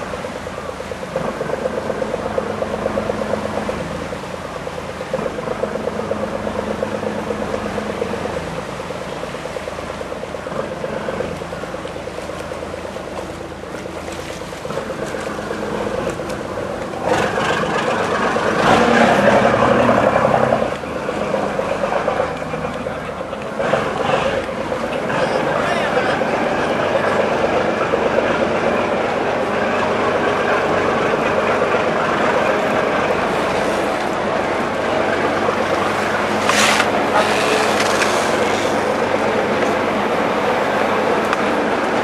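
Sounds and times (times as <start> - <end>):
engine running with even pulse: 0.0 - 42.0.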